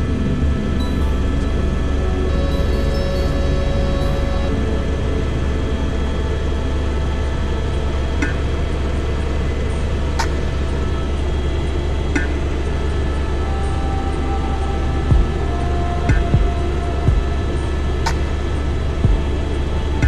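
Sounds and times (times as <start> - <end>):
turbine whine: 0.0 - 20.0.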